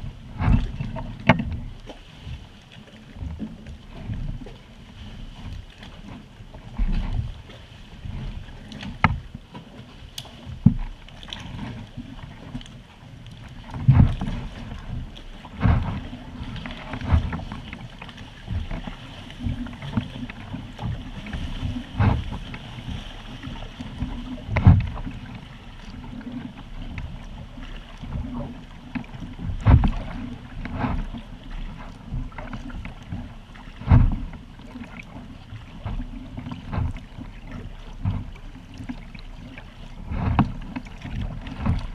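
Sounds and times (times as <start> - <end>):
paddle splashes: 0.0 - 41.9
water sloshing against hull: 0.0 - 41.9.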